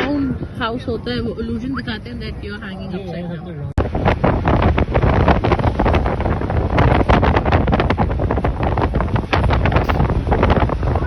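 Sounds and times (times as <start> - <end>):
wind buffeting microphone: 0.0 - 3.0, 3.8 - 11.0.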